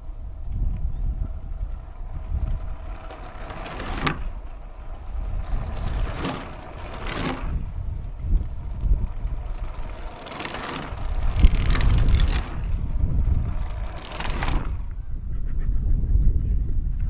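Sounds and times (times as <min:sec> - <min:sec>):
bicycles rattling over cobblestones: 0:00.0 - 0:16.2
wind rumble on microphone: 0:00.0 - 0:17.0.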